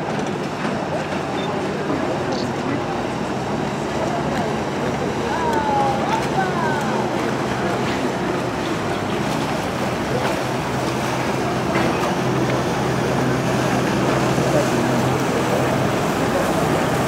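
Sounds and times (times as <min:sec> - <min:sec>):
boat engine humming: 0:00.0 - 0:17.0
churned water wash: 0:00.0 - 0:17.0.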